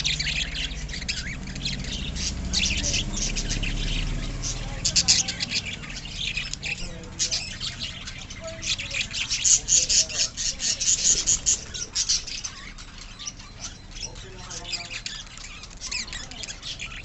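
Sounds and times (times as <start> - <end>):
lovebirds squawking and chirping: 0.0 - 17.0.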